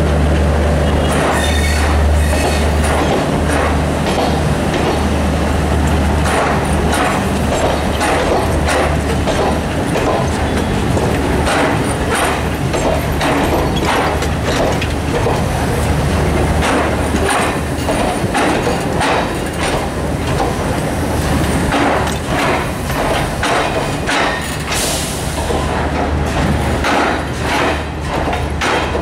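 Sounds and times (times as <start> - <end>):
wheels clacking over rail joints: 0.0 - 29.0.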